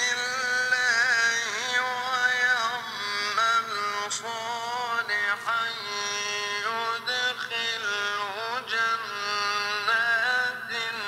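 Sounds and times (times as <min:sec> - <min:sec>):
person chanting melodically: 0:00.0 - 0:11.0.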